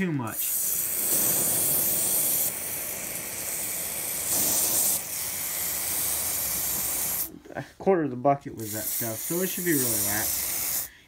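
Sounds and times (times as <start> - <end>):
hose spraying water into bucket: 0.2 - 7.3, 8.6 - 10.9.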